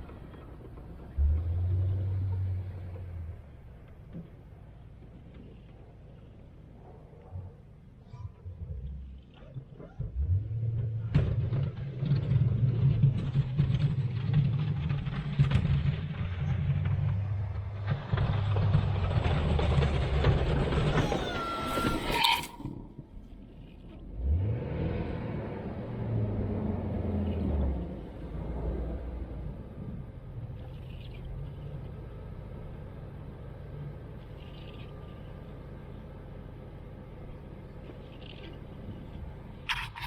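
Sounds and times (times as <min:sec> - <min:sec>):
engine running and revving: 0:00.0 - 0:05.8, 0:08.6 - 0:21.0, 0:23.7 - 0:40.0.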